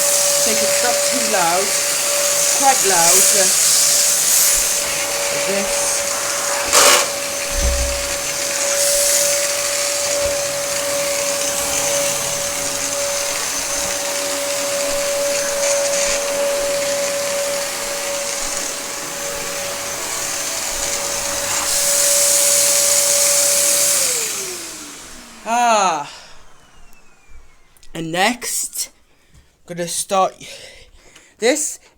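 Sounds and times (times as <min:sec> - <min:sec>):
vacuum cleaner running: 0:00.0 - 0:28.7.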